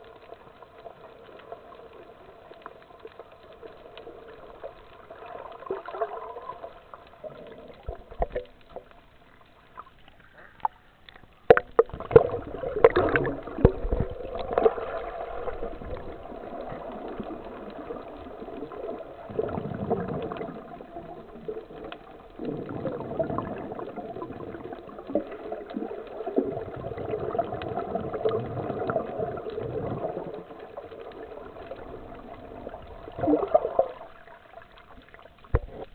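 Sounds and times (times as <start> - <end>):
underwater gurgling and sloshing: 0.0 - 35.9.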